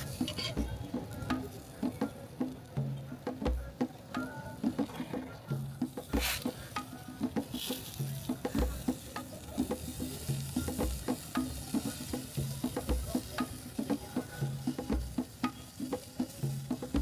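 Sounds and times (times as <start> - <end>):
background music with steady beat: 0.0 - 17.0
faint steady hiss: 0.0 - 17.0.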